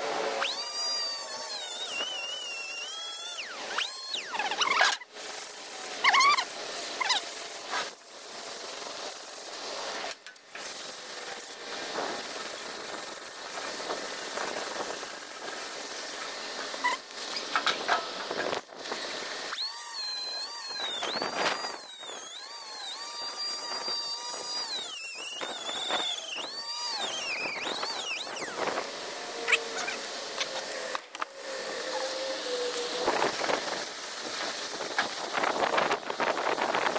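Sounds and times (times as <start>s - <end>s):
power tool whining: 0.0s - 36.9s.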